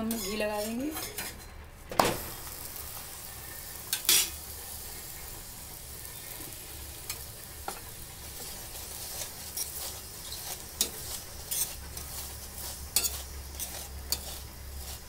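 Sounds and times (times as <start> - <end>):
spatula scraping griddle: 0.0 - 1.5, 2.2 - 5.4, 6.0 - 15.0
flatbread sizzling on iron griddle: 2.0 - 15.0.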